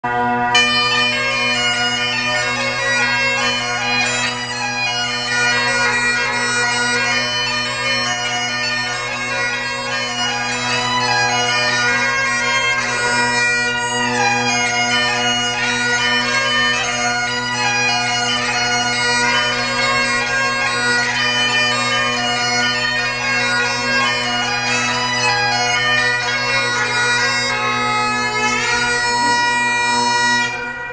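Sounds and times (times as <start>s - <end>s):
bagpipe drones: 0.0s - 30.9s
bagpipe melody: 0.0s - 30.9s.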